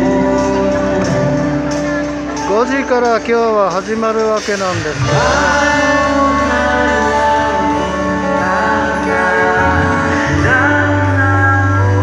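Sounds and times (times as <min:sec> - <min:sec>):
live pop music over loudspeakers: 0:00.0 - 0:12.0.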